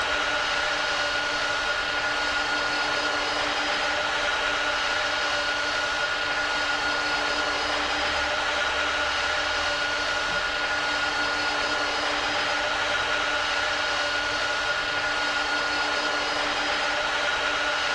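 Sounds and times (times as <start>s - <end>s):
jet engines running: 0.0s - 17.9s.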